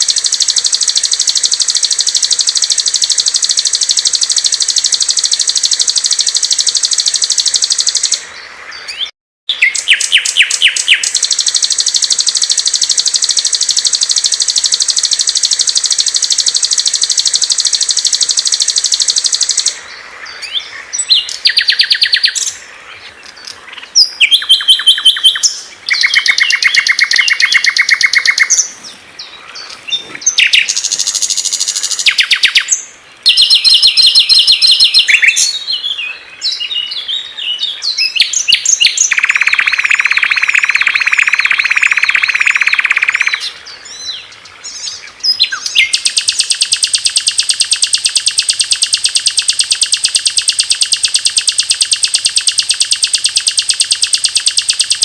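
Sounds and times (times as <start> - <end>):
recorded songbird trills and chirps: 0.0 - 55.0.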